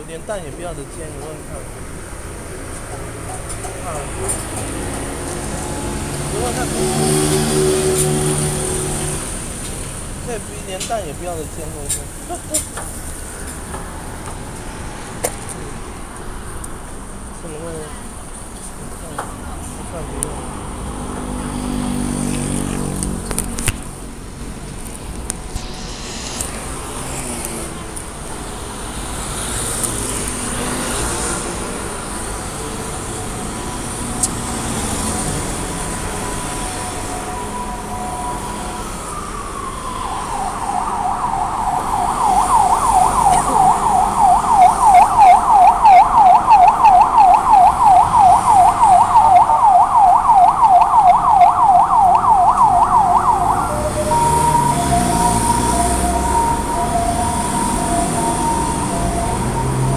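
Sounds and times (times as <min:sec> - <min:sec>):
road traffic noise: 0:00.0 - 0:59.9
emergency vehicle siren: 0:01.2 - 0:14.8, 0:24.0 - 0:59.9.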